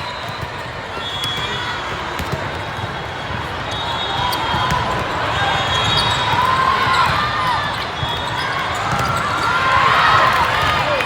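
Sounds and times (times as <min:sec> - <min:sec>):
crowd chatter: 0:00.0 - 0:11.0
sneakers squeaking on court floor: 0:00.1 - 0:10.6.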